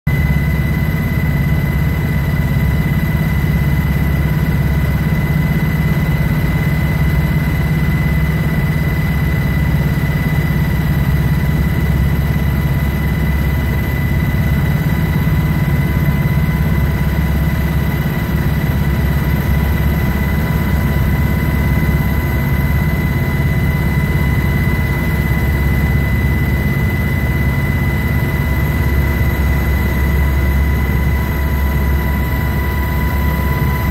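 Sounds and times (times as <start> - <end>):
helicopter deep drone: 0.1 - 33.9
helicopter high whine: 0.1 - 33.9.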